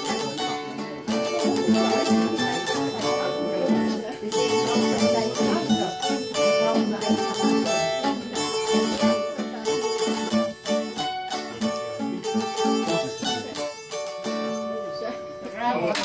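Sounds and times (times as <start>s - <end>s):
acoustic guitar accompaniment: 0.0s - 16.0s
plucked zither melody: 0.0s - 16.0s.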